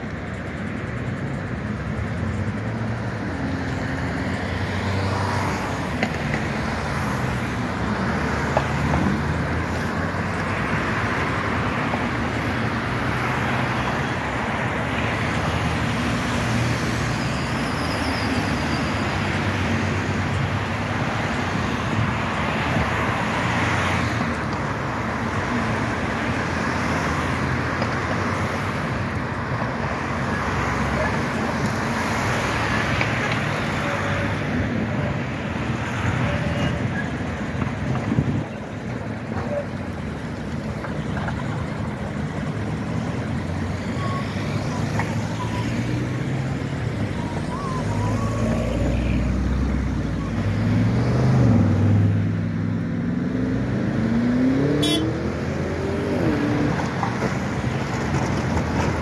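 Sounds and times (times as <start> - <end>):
cars passing close by: 0.0 - 59.0
engine and tyre noise: 0.0 - 59.0.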